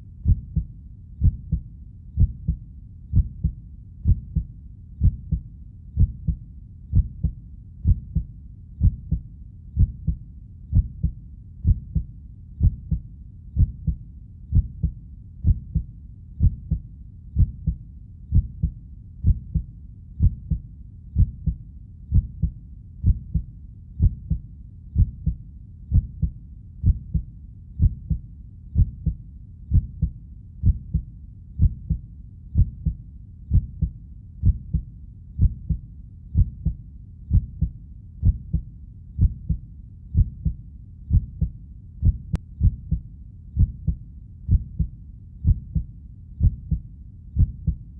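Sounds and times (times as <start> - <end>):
faint low rumble: 0.0 - 47.9
heartbeat thumps: 0.2 - 24.4, 25.0 - 28.2, 28.8 - 47.9.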